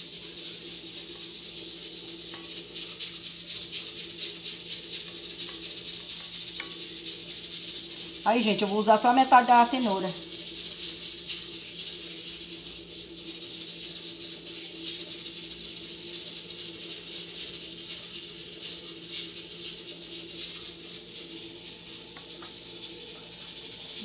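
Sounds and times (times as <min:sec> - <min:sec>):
kitchen hum and hiss: 0:00.0 - 0:24.0.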